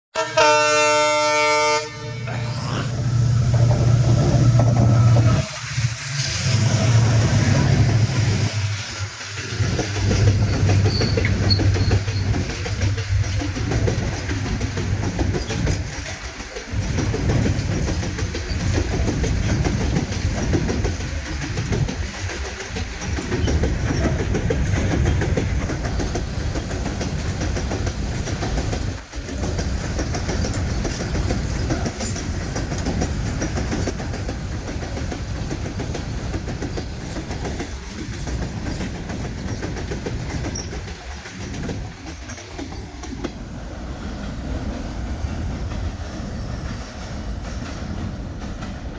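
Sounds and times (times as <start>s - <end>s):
freight train wheels clattering: 3.2s - 48.9s.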